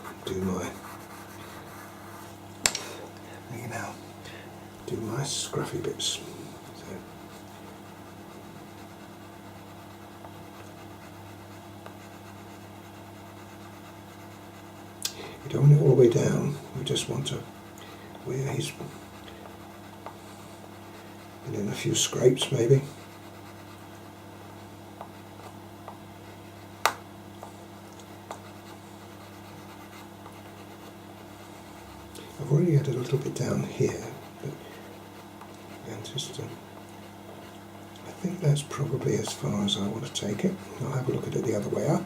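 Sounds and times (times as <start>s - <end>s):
pencil scratching on paper: 0.0s - 2.4s, 5.0s - 42.0s
steady low hum: 0.0s - 42.0s.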